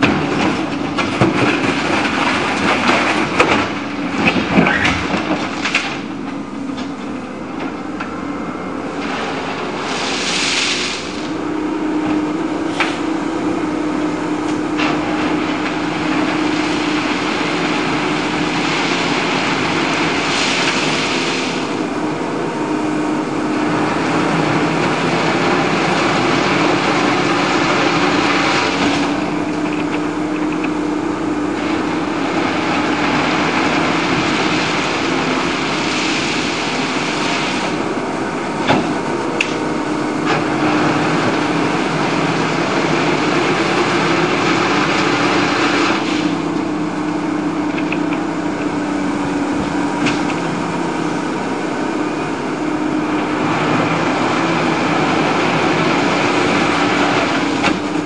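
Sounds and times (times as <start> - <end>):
diesel excavator engine revving: 0.0 - 58.0.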